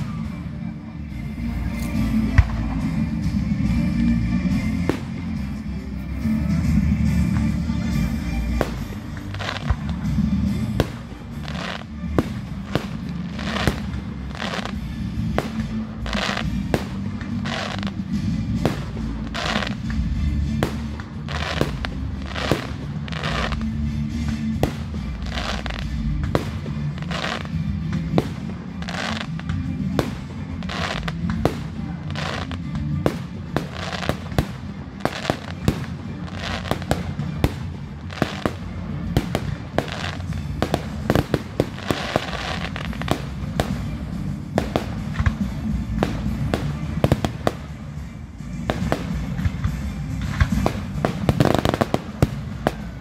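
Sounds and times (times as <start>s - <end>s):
music playing: 0.0s - 53.0s.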